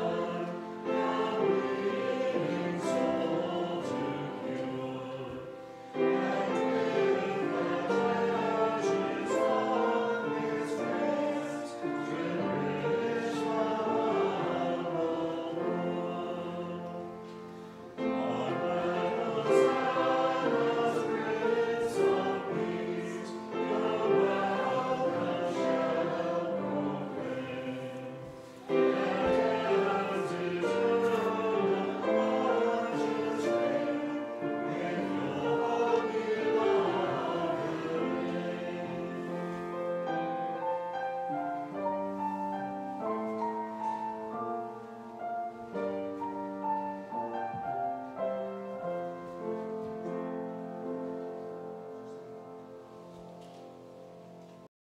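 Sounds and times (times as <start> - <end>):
congregation singing a hymn: 0.0 - 54.7.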